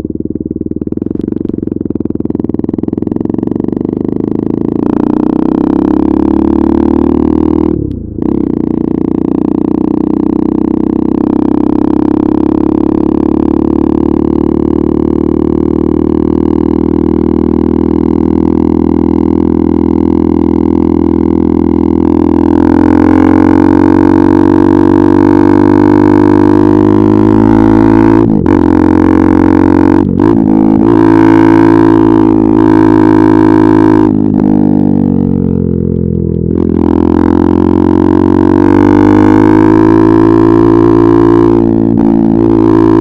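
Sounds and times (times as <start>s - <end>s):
motorcycle engine under load: 0.0s - 43.0s.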